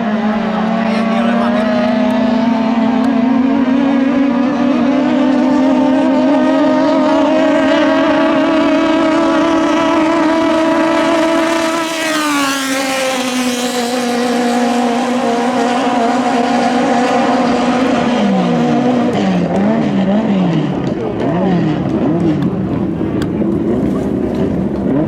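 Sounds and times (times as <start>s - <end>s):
racing boat engines at high revs: 0.0s - 25.0s.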